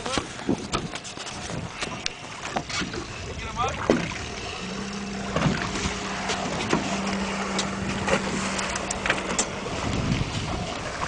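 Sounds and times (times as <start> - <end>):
water sloshing against hull: 0.0 - 11.0
steady low hum: 1.7 - 11.0.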